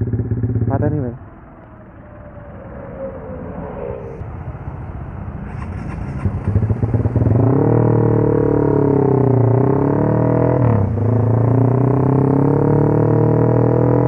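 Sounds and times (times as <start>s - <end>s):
motorcycle engine running: 0.0s - 3.2s, 5.6s - 14.0s.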